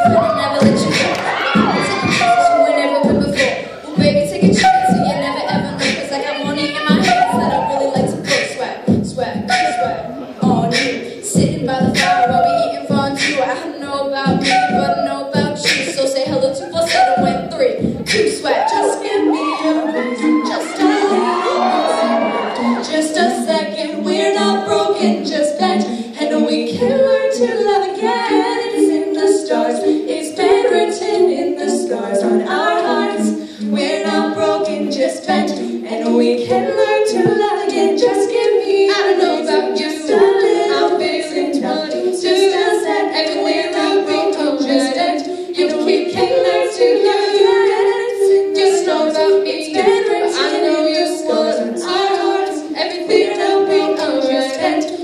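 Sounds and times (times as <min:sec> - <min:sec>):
a cappella group singing: 0:00.0 - 0:55.0.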